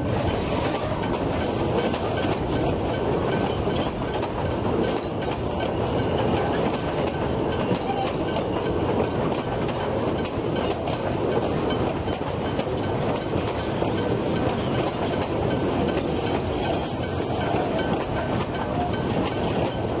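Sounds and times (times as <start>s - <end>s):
train carriages rumbling past: 0.0s - 20.0s
wheels clacking over rails: 0.0s - 20.0s.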